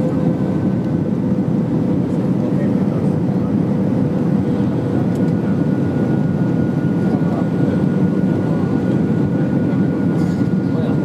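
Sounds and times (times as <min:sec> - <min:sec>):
airflow and jet engine roar: 0:00.0 - 0:11.0.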